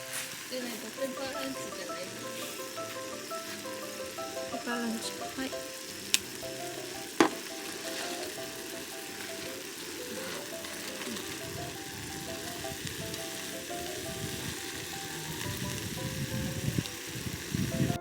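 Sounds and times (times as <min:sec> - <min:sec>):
background music with simple melody: 0:00.0 - 0:18.0
rice sizzling in a hot pan: 0:00.0 - 0:18.0.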